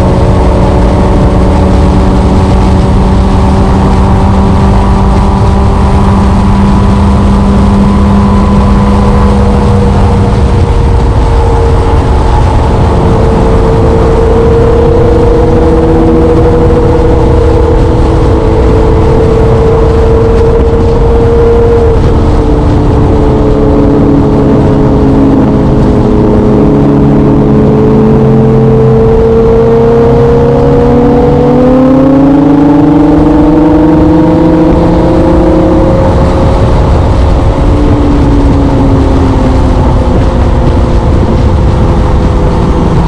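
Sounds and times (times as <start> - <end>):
motorcycle engine running: 0.0 - 43.0
wind noise on microphone: 0.0 - 43.0.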